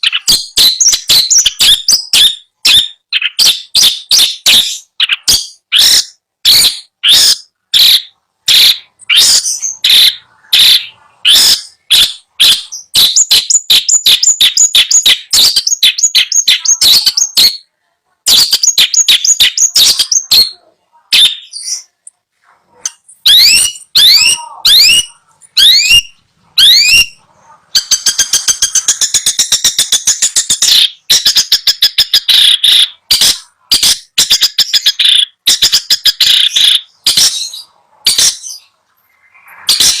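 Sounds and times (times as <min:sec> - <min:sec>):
bird chattering: 0:00.0 - 0:17.7, 0:18.3 - 0:22.1, 0:22.7 - 0:40.0
bird singing in bursts: 0:00.0 - 0:17.7, 0:18.3 - 0:22.0, 0:23.2 - 0:40.0.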